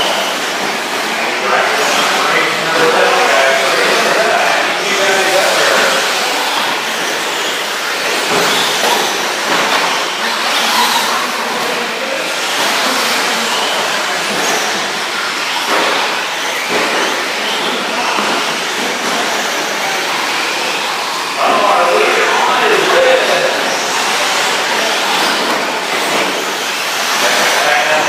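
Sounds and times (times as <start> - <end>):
rc truck motors whining: 0.0 - 28.0.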